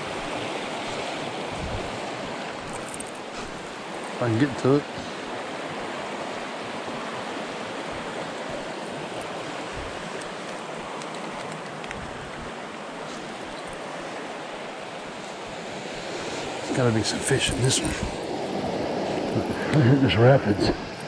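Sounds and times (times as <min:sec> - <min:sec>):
stream rushing over rocks: 0:00.0 - 0:19.8.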